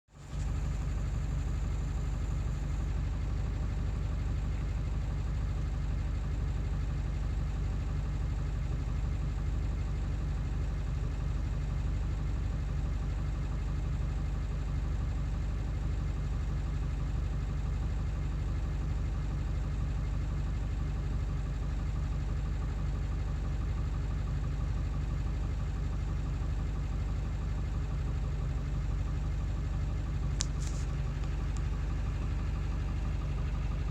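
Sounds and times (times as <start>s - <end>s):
diesel engine idling rough: 0.1s - 33.9s.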